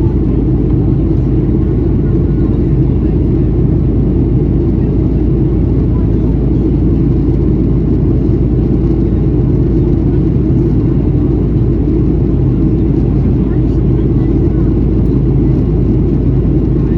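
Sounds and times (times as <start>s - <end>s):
air rushing along fuselage: 0.0s - 16.9s
jet engines humming: 0.0s - 16.9s.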